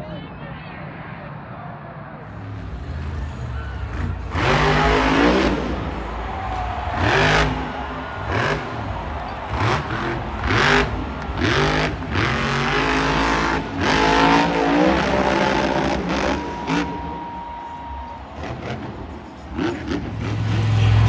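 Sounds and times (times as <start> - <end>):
truck engine revving hard: 2.8 - 17.4, 18.2 - 21.0.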